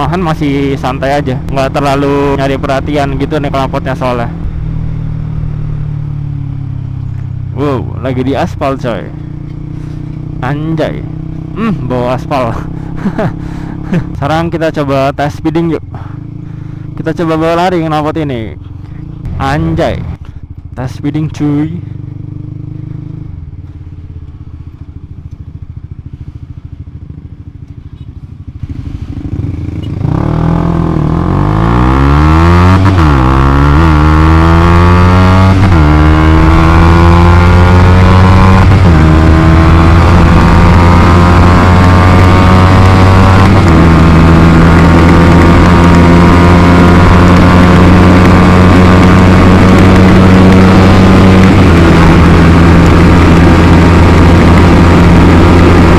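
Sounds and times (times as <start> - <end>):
motorcycle engine accelerating hard: 0.0 - 55.9.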